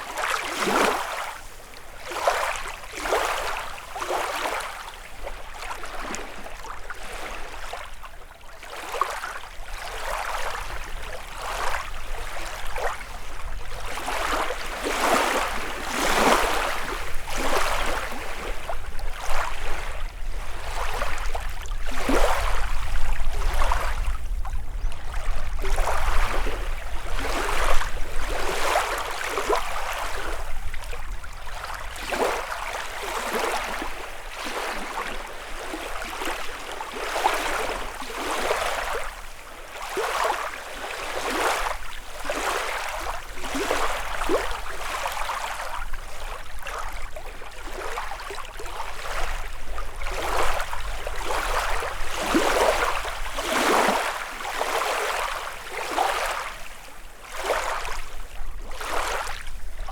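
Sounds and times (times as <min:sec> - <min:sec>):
waves lapping against shore: 0:00.0 - 0:59.9.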